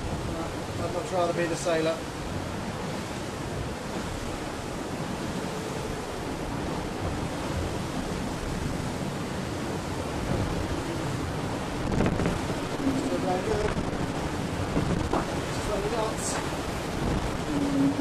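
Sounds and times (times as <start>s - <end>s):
rush of water: 0.0s - 18.0s
wind: 0.0s - 18.0s.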